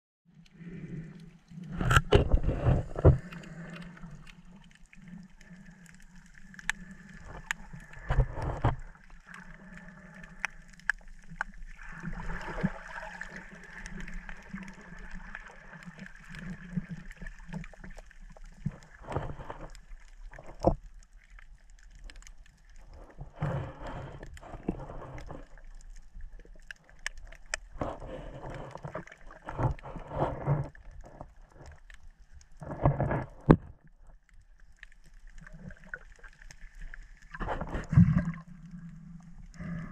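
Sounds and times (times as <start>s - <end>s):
low underwater hum: 0.3s - 39.9s
water bubbling and rushing: 0.5s - 39.9s.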